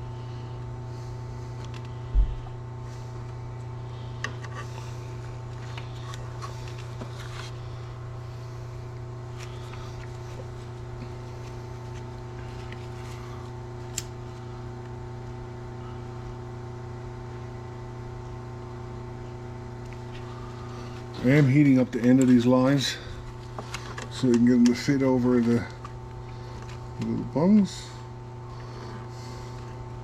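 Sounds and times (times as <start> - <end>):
heat gun fan hum: 0.0 - 30.0.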